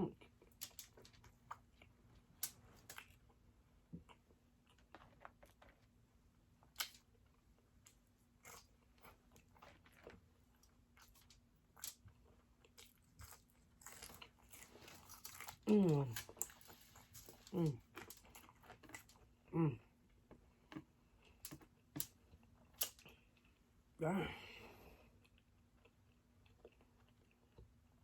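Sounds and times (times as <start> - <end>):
chewing and crunching food: 0.0 - 24.0, 24.7 - 28.0.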